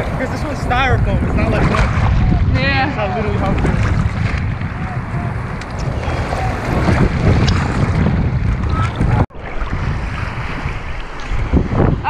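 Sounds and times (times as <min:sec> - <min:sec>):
seawater sloshing and surf: 0:00.0 - 0:12.0
wind buffeting microphone: 0:00.0 - 0:12.0.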